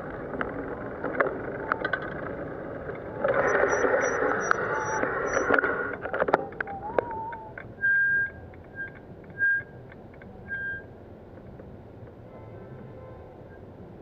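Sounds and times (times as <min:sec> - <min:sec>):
low traffic hum: 0:00.0 - 0:14.0.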